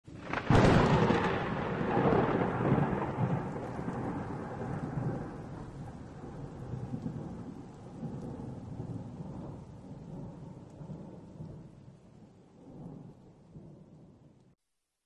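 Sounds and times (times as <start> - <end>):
thunder clap rolling: 0.1 - 11.9, 12.6 - 14.4
rain hiss: 0.1 - 14.4.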